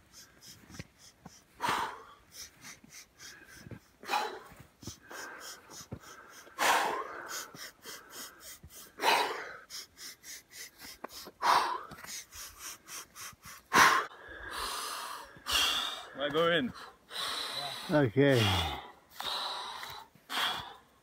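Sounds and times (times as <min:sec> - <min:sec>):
quick breath puffs: 0:00.0 - 0:20.9
man forceful breathing: 0:00.0 - 0:21.0.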